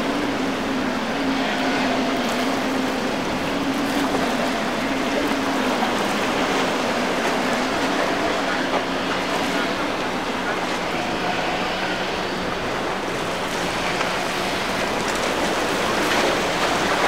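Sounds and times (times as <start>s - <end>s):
choppy water: 0.0s - 17.0s
wind: 0.0s - 17.0s.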